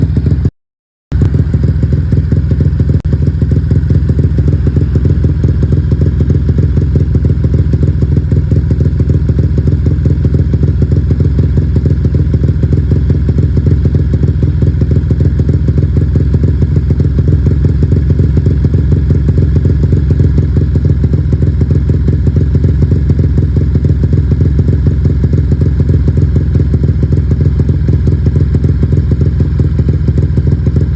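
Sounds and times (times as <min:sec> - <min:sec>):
motorcycle engine with loud exhaust: 0:00.0 - 0:00.5, 0:01.1 - 0:30.9.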